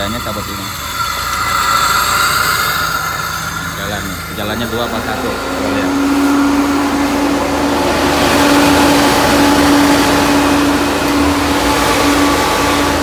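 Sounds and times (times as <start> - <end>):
electric cooling fan running: 0.0 - 13.0.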